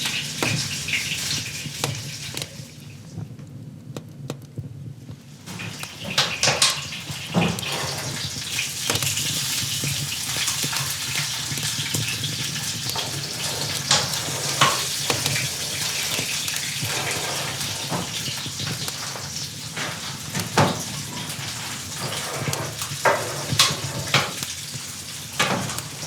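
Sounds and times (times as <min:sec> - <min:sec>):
food sizzling in a pan: 0:00.0 - 0:03.1, 0:05.3 - 0:26.0.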